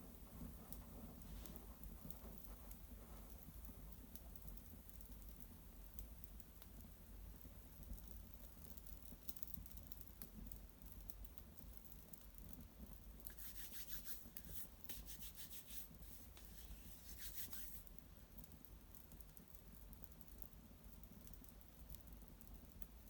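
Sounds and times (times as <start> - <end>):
small fire crackling: 0.0 - 23.0.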